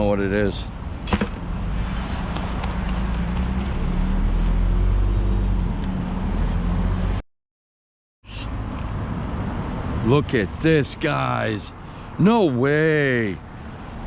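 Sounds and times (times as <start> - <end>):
road noise: 0.0 - 7.2, 8.2 - 14.0.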